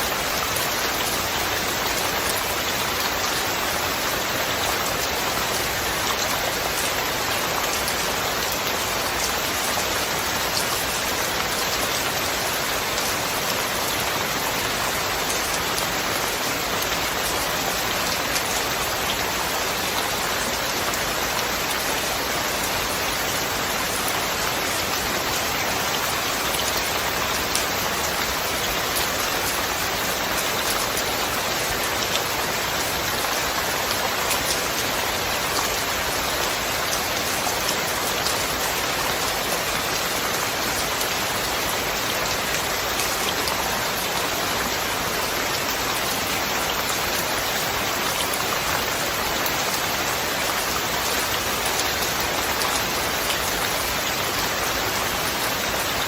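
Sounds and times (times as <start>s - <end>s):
dense rainfall: 0.0s - 56.0s.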